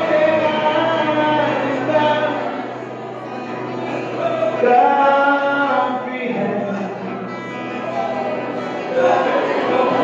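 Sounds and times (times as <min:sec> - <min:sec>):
voices singing worship song: 0:00.0 - 0:03.0, 0:04.0 - 0:10.0.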